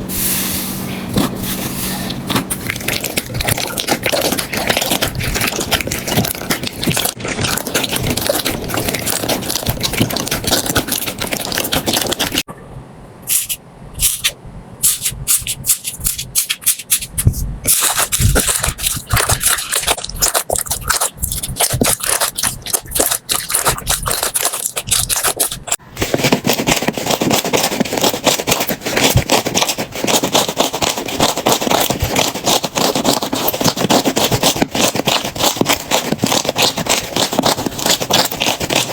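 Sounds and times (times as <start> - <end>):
slime crackling and popping: 2.1 - 12.5, 13.3 - 38.9.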